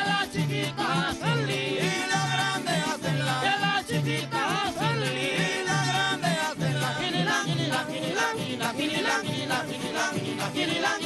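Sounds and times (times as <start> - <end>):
hand drum beat: 0.0 - 11.0
men singing together: 0.0 - 11.0
strummed small guitars: 0.0 - 11.0.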